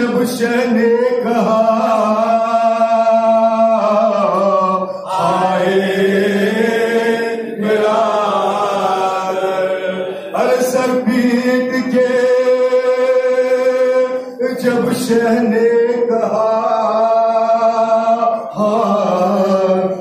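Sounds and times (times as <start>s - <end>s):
men chanting a lament: 0.0s - 20.0s.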